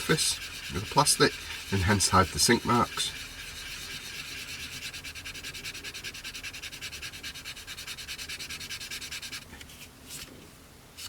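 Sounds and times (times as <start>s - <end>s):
sanding plastic: 0.0s - 10.3s.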